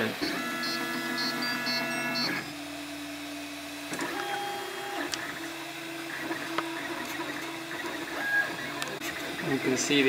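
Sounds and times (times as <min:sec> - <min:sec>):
stepper motors humming: 0:00.0 - 0:10.0.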